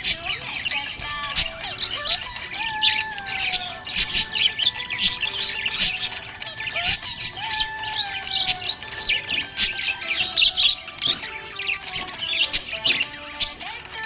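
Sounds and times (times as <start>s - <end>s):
budgerigars chirping and warbling: 0.0s - 14.0s.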